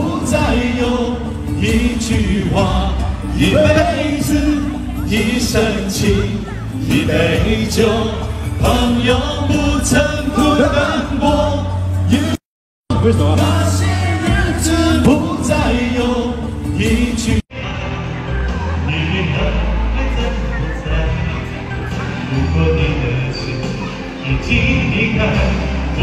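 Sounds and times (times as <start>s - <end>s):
amplified backing track: 0.0s - 26.0s
men singing pop song: 0.0s - 26.0s.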